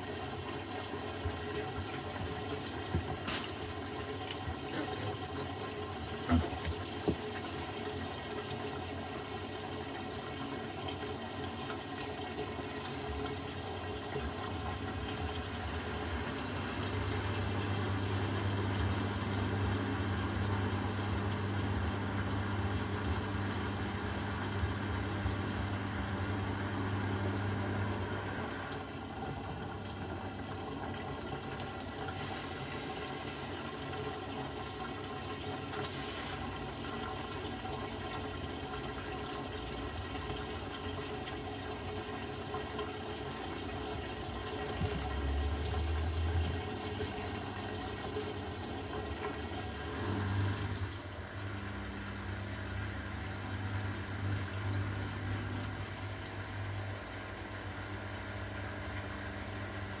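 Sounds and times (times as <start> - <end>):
washing machine sloshing and humming: 0.0 - 60.0.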